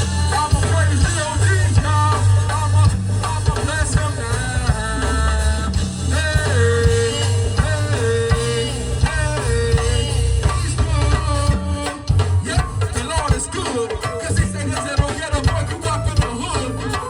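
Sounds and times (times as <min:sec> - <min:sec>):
heavy bass line: 0:00.0 - 0:13.6, 0:14.2 - 0:17.0
drums: 0:00.0 - 0:17.0
gospel band playing: 0:00.0 - 0:17.0.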